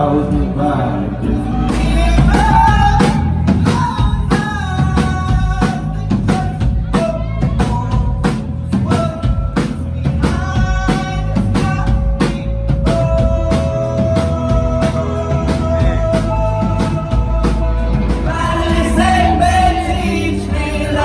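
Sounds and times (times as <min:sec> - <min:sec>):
drum kit beat: 0:00.0 - 0:21.0
live rock band playing: 0:00.0 - 0:21.0.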